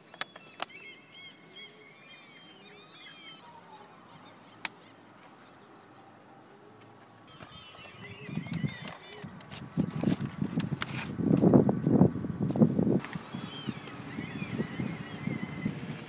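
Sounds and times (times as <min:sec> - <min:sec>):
birds chirping: 0:00.0 - 0:10.4, 0:13.0 - 0:16.0.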